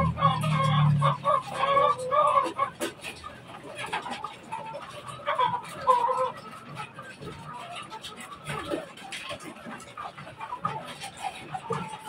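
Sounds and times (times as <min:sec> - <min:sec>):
chickens clucking and squawking: 0:00.0 - 0:12.0.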